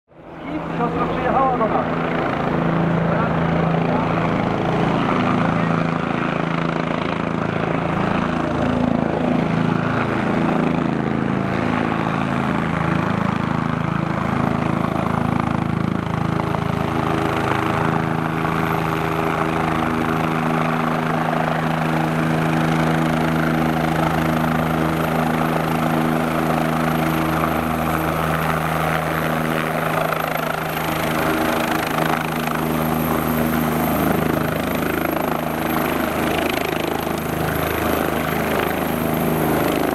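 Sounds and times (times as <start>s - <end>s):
helicopter rotor and turbine: 0.1s - 39.9s.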